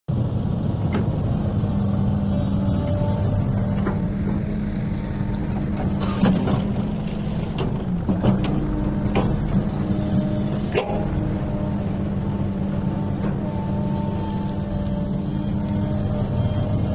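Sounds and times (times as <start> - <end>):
excavator diesel engine running: 0.1 - 16.9.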